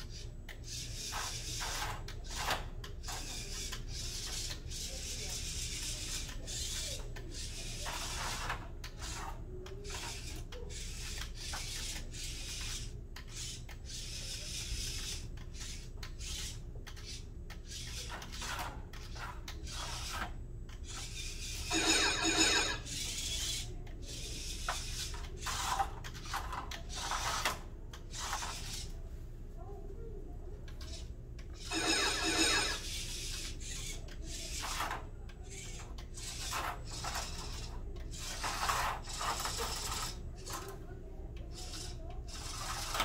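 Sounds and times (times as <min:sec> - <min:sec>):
robot motors and plastic scraping: 0:00.1 - 0:29.0, 0:30.7 - 0:43.0.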